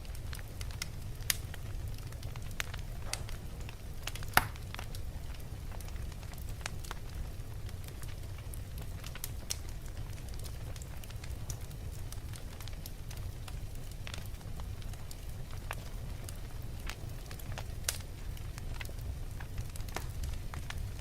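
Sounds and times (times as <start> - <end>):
fire crackling and popping: 0.0 - 21.0
fire rumbling in fireplace: 0.0 - 21.0.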